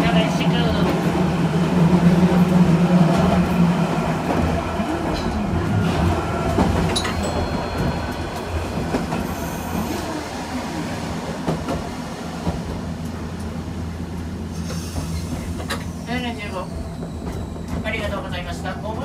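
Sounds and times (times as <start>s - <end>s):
train motors and wheels humming: 0.0s - 19.0s.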